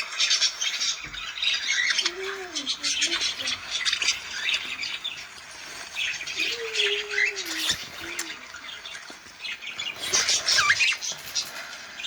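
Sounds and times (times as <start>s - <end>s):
cockatiels chirping and squawking: 0.0s - 12.0s.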